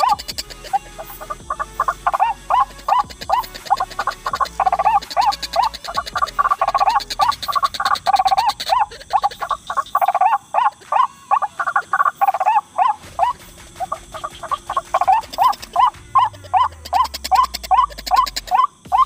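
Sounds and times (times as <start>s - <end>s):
bird calling repeated croaking notes: 0.0s - 19.0s.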